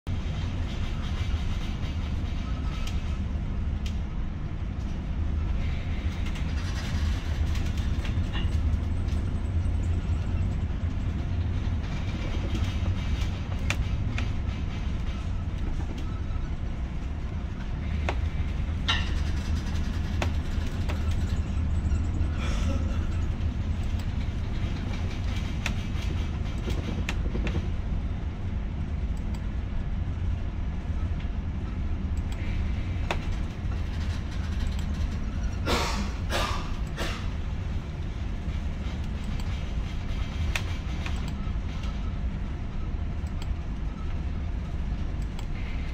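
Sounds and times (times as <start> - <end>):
ship engine rumble: 0.1 - 45.9.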